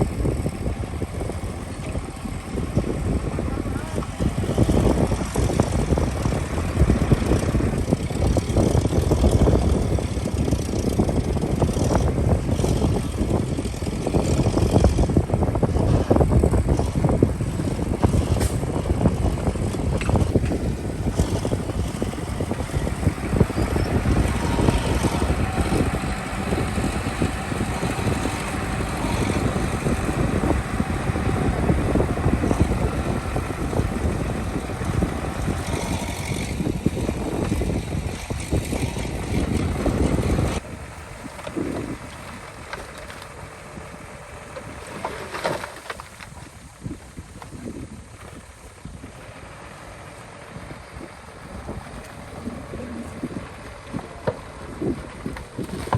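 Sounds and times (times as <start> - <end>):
diesel machine running: 0.0 - 55.9.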